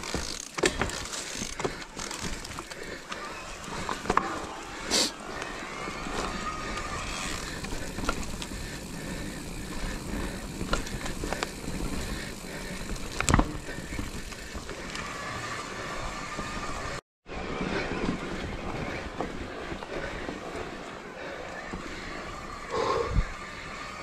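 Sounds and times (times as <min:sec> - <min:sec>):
bike rattles and clicks: 0:00.0 - 0:24.0
bike tyres on dirt trail: 0:00.0 - 0:24.0.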